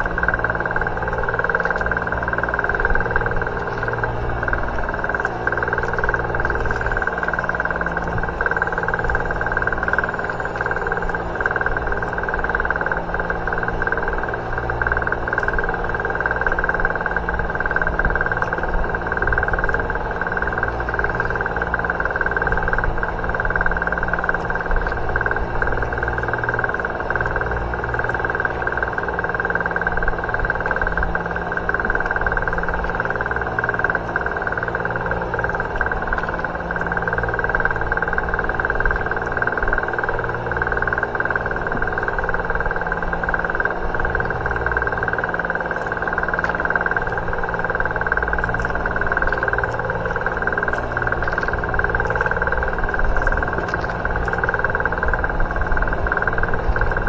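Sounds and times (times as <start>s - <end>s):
boat engine droning: 0.0s - 57.0s
faint ticks: 0.0s - 57.0s.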